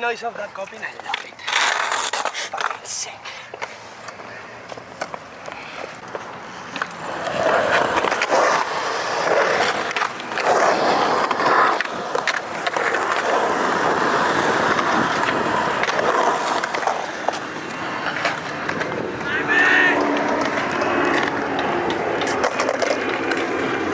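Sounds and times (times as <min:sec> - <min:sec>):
skateboard wheels rolling on concrete: 0:00.0 - 0:23.9
skateboard clacks: 0:00.6 - 0:23.9.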